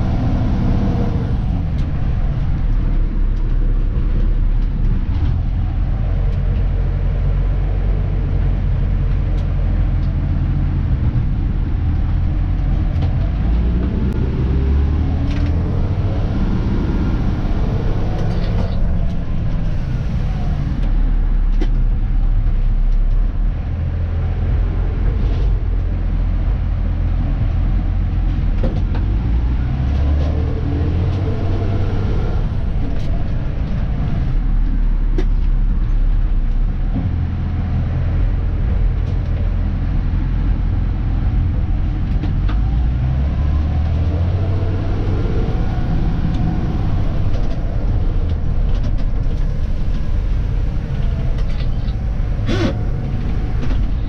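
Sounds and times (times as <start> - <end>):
truck diesel engine accelerating: 0.0 - 54.0.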